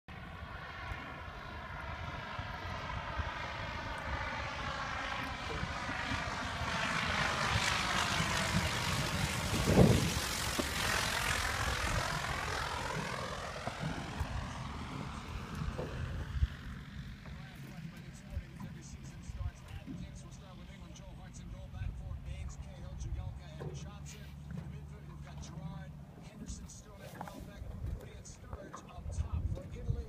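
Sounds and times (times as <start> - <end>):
propeller plane flying overhead: 0.1 - 30.0.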